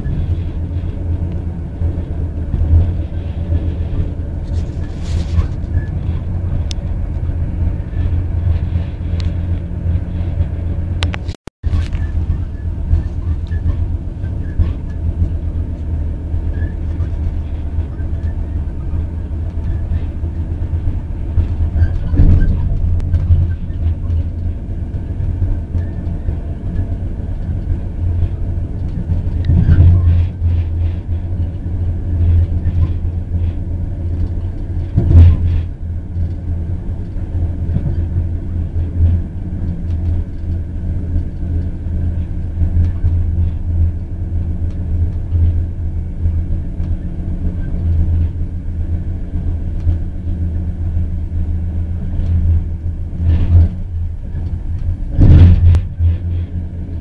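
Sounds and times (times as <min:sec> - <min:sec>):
train rumble and hum: 0:00.0 - 0:57.0.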